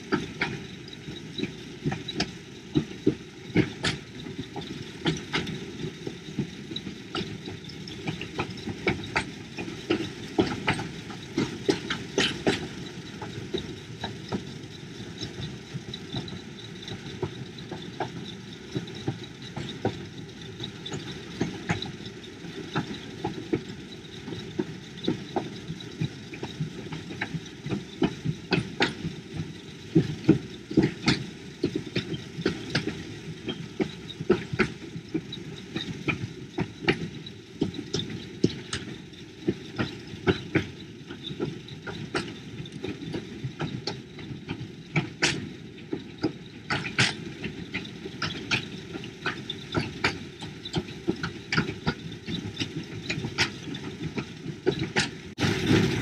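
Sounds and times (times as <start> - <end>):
small electric train rumbling: 0.0 - 56.0
wheels clacking on track: 0.0 - 56.0.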